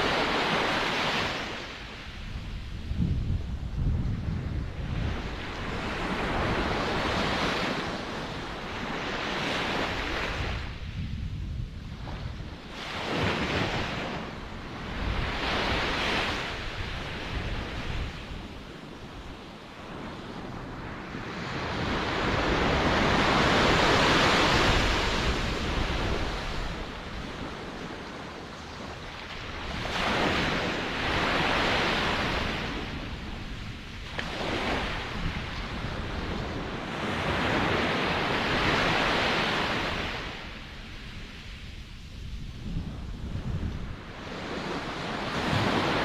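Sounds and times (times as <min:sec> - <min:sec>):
ocean waves breaking: 0:00.0 - 0:02.4, 0:04.8 - 0:10.9, 0:11.9 - 0:41.8, 0:42.6 - 0:46.0.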